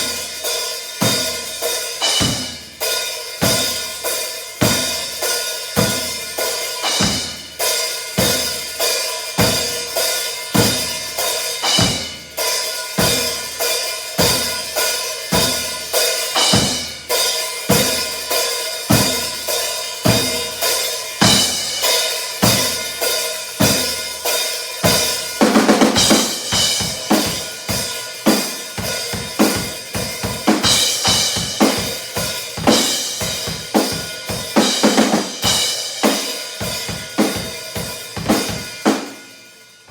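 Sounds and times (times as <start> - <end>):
kick and snare drums: 0.0 - 39.4
ringing cymbals: 0.0 - 39.9.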